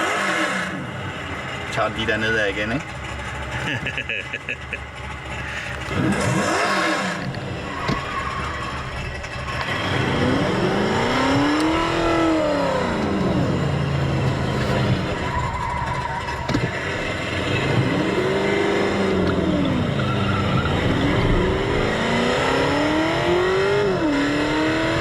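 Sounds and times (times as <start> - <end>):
simulated engine revving: 0.0 - 25.0.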